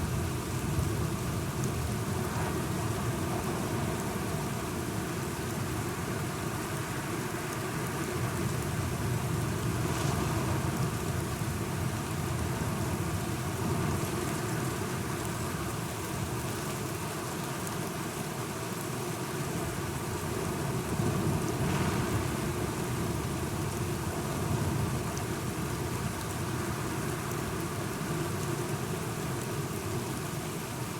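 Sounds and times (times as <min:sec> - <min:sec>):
steady rain: 0:00.0 - 0:30.9.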